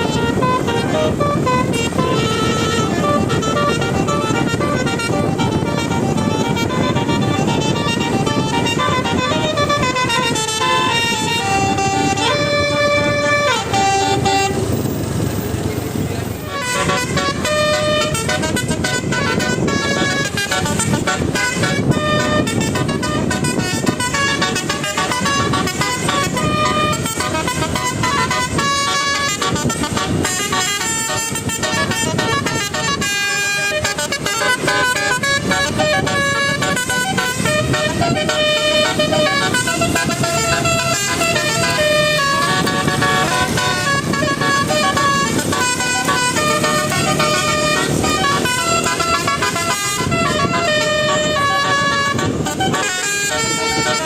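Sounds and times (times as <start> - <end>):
bus musical horn tune: 0.0 - 15.5, 16.2 - 54.0
engine and road rumble: 0.0 - 54.0.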